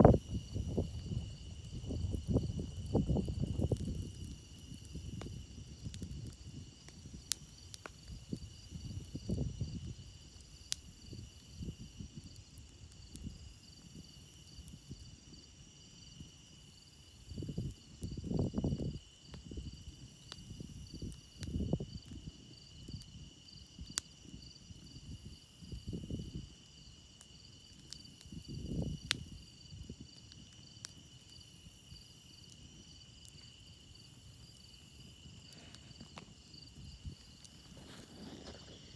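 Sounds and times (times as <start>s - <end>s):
burning wood crackling: 0.0s - 14.9s, 16.9s - 38.9s
crickets chirring: 0.0s - 38.9s.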